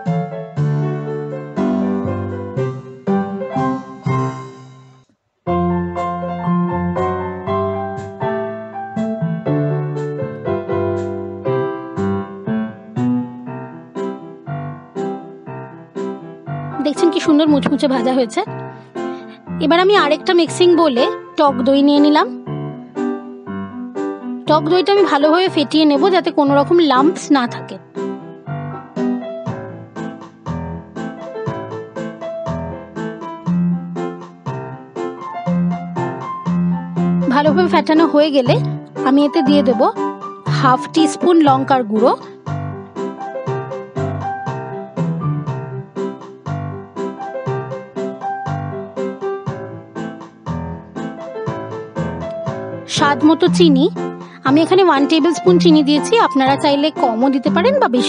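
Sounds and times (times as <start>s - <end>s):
keyboard melody: 0.0s - 58.0s
slow piano music: 0.0s - 58.0s.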